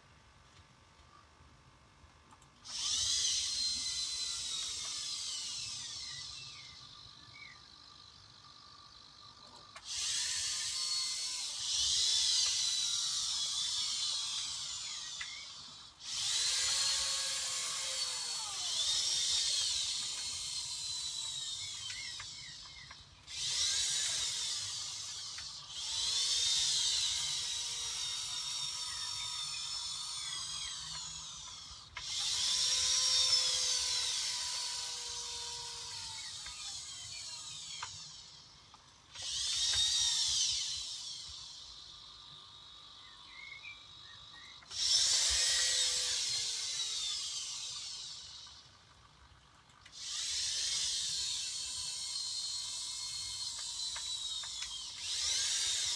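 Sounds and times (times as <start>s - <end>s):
servo motors whining: 2.6s - 55.9s.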